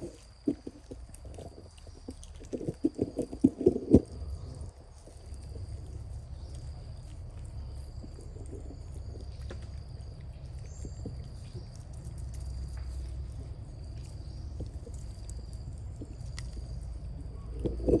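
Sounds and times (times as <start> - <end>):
low rumble: 0.0 - 18.0
small ticks and clicks: 0.0 - 18.0.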